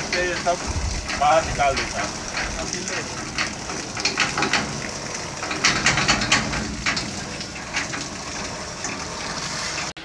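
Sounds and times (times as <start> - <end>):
water spurting onto wet ground: 0.0 - 10.0.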